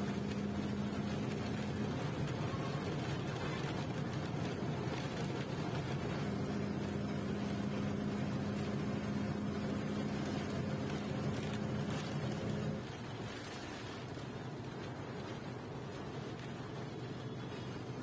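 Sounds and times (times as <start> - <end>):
bus engine hum: 0.0 - 18.0
road rumble: 0.0 - 18.0.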